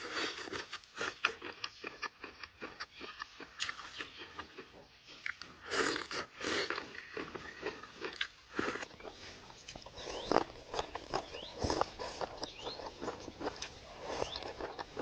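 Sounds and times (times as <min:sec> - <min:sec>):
crunchy bites: 0:00.0 - 0:15.0
person chewing food: 0:00.0 - 0:15.0.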